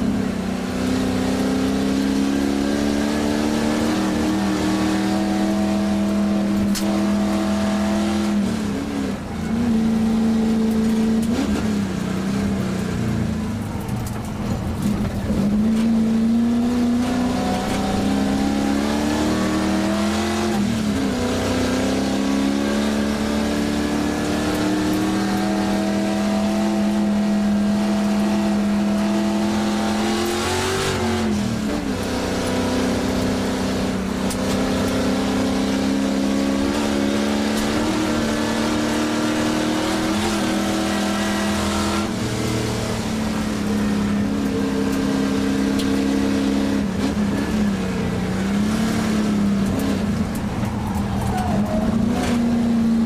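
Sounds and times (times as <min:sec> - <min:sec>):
car engine at high revs: 0:00.0 - 0:53.0.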